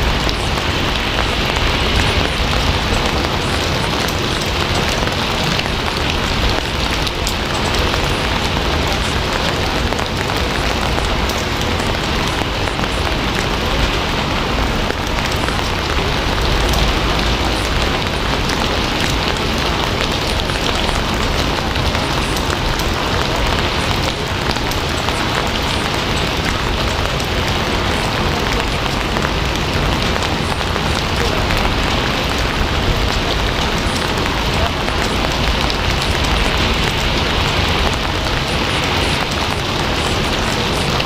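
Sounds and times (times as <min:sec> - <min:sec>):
steady rainfall: 0:00.0 - 0:41.0.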